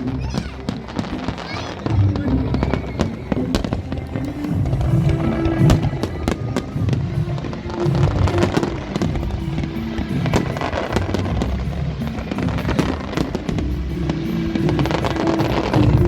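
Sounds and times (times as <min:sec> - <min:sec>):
fireworks bursting and crackling: 0:00.0 - 0:16.0
music playing: 0:00.0 - 0:16.0.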